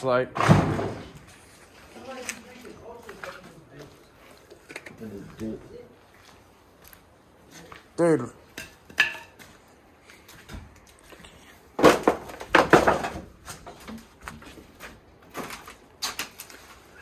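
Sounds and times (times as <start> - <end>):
crunching and scraping: 0.4 - 17.0.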